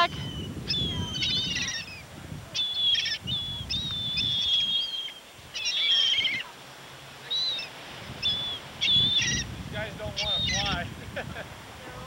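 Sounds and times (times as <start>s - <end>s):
seagulls calling: 0.0s - 6.6s, 7.2s - 10.8s
low rumble of surf or wind: 0.0s - 12.0s.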